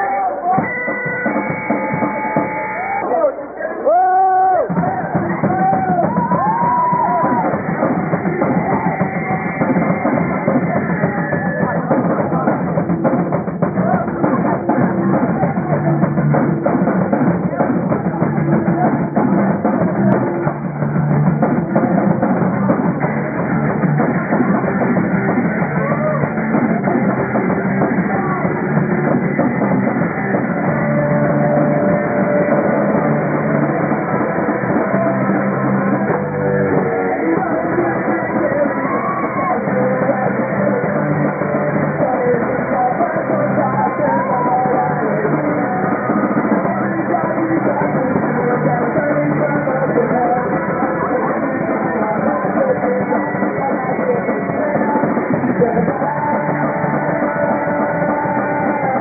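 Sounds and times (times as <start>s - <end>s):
rock band playing live: 0.0s - 3.0s, 4.7s - 59.0s.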